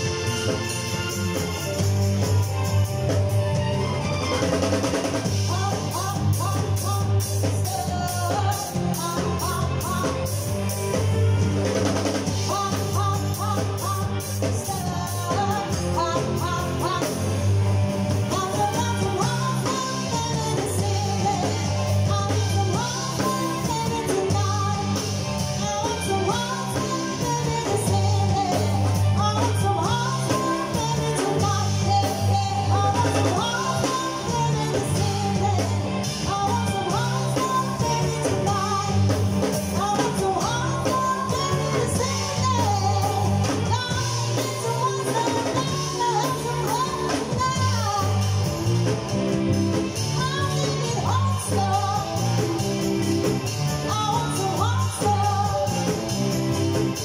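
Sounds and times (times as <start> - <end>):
live band playing: 0.0 - 57.0
woman singing: 4.9 - 48.9, 49.5 - 57.0.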